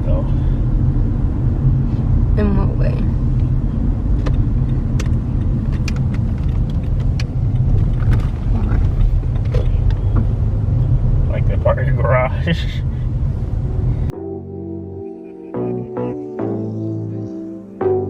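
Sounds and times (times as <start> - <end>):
road and engine rumble: 0.0 - 17.8.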